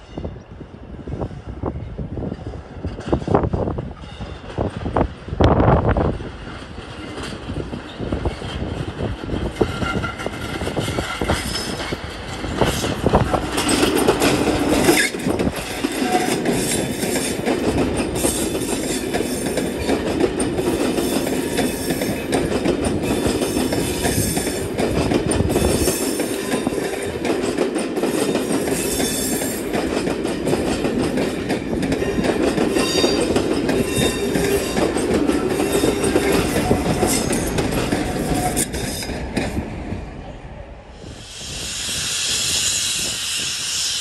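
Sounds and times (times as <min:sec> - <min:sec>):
train wheels rumbling and clicking: 0:01.2 - 0:44.0.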